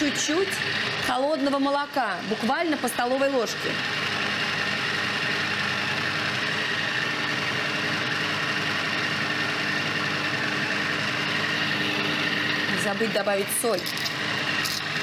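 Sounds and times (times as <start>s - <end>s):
electric blender motor whining: 0.0s - 15.0s.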